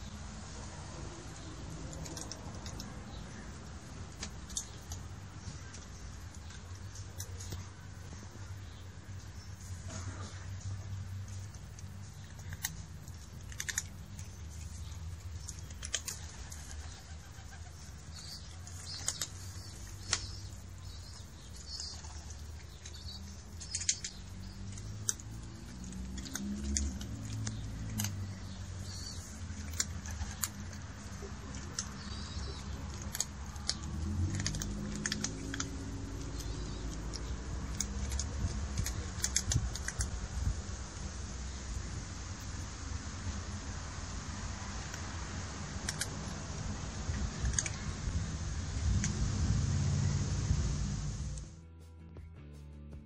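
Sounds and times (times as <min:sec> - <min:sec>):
low background rumble: 0:00.0 - 0:51.6
cats crunching dry kibble: 0:01.2 - 0:41.1, 0:44.2 - 0:49.3.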